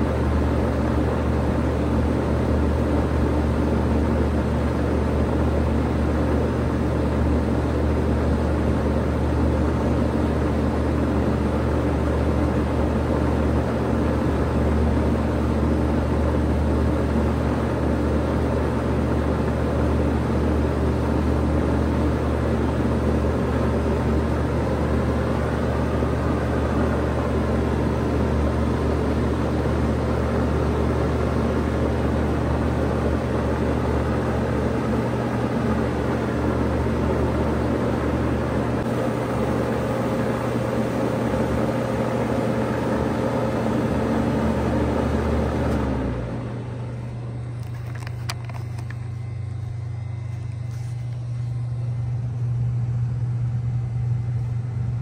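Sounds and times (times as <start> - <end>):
compressor hum: 0.0 - 55.0
fan air noise: 0.0 - 55.0.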